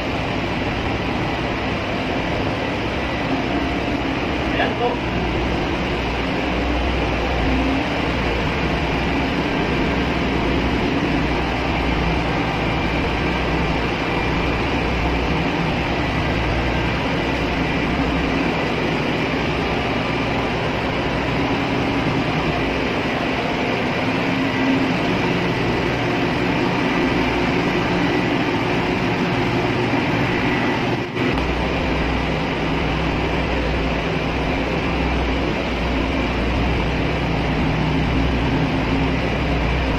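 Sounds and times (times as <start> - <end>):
engine-room machinery drone: 0.0 - 39.9
low hum: 0.0 - 39.9.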